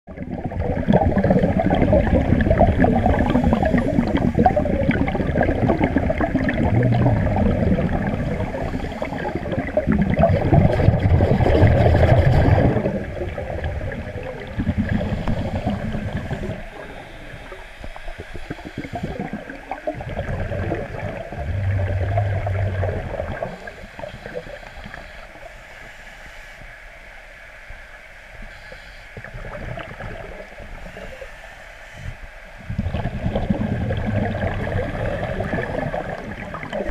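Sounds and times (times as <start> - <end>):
underwater air bubbling: 0.1 - 26.0, 28.4 - 36.9.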